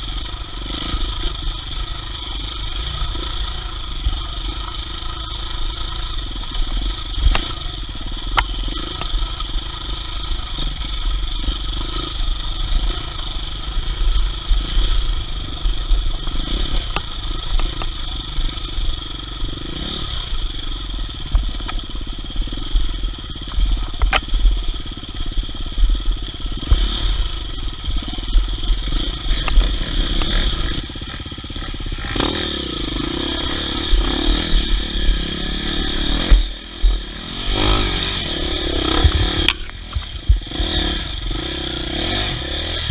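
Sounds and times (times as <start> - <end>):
dirt bike engine rumbling: 0.0 - 42.9.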